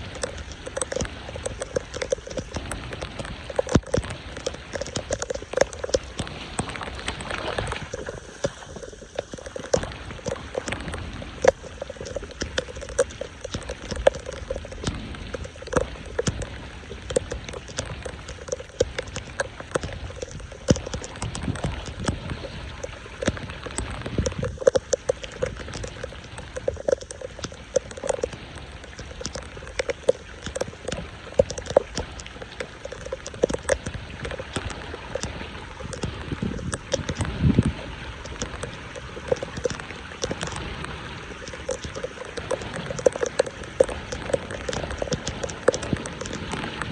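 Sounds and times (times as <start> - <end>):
floodwater splashing and dripping: 0.0 - 46.9
running water: 0.0 - 46.9.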